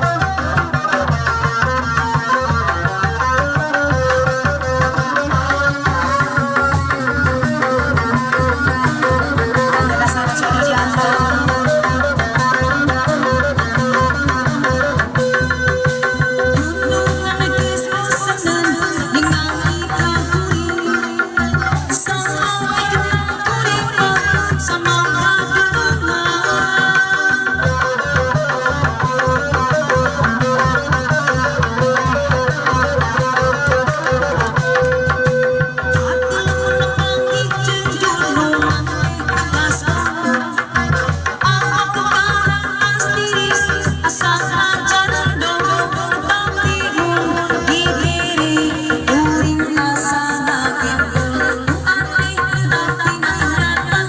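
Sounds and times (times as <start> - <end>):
gamelan music: 0.0 - 53.3
hand drum rhythm: 0.0 - 54.0
plucked instrument melody: 0.0 - 54.0.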